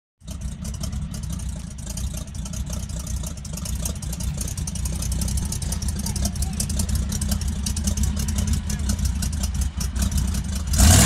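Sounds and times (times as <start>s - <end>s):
engine idling: 0.2s - 11.0s.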